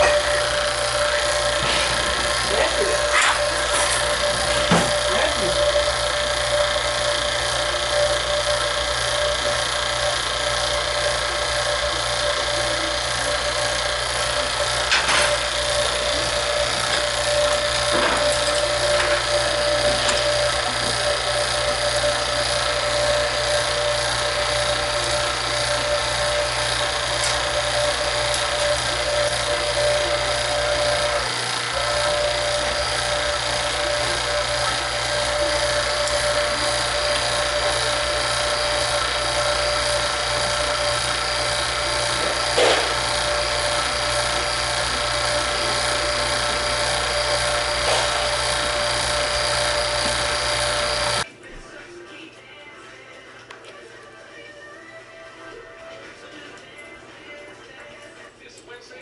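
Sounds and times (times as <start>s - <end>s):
small machine motor whining: 0.0s - 51.3s.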